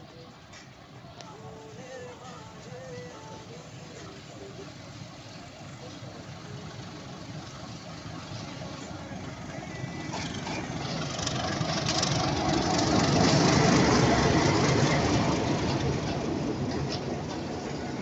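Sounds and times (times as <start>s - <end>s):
diesel locomotive passing: 0.0s - 18.0s.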